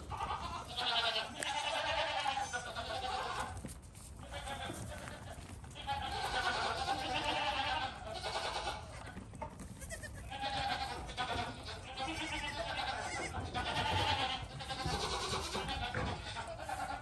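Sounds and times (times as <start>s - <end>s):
goat kids bleating: 0.0s - 17.0s.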